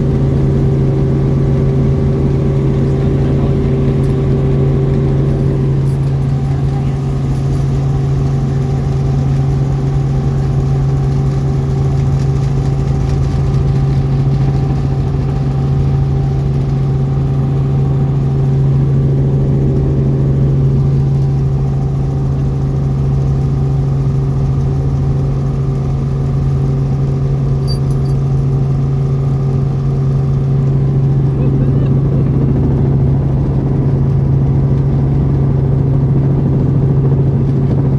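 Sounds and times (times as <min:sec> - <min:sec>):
helicopter engine and rotors: 0:00.0 - 0:37.9.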